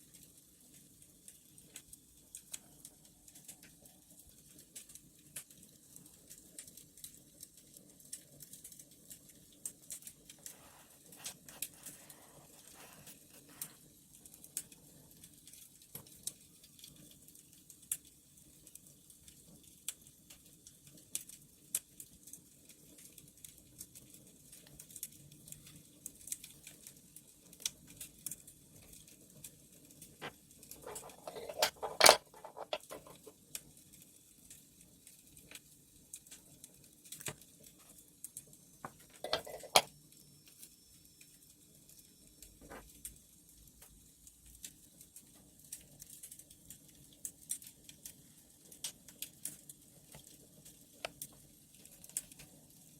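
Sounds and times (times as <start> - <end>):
wood fire crackling and popping: 0.0 - 31.2, 32.3 - 52.9.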